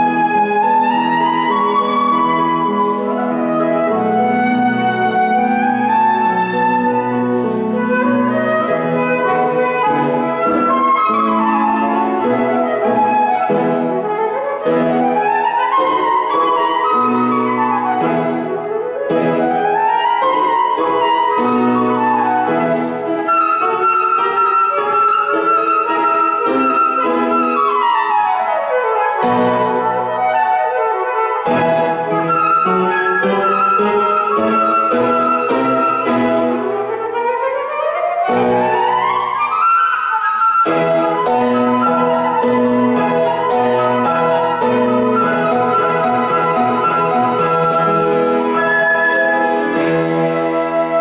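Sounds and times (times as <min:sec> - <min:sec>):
flute and piano duet: 0:00.0 - 0:51.0.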